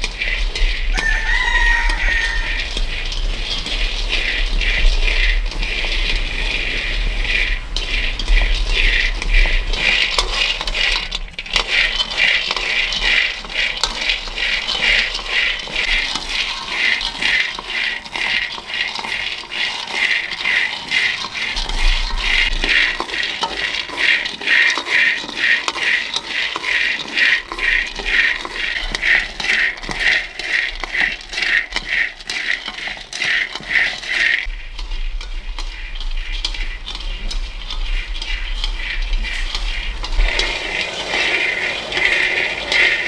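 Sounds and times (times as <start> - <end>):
utensil scraping in a pan: 0.0 - 43.0.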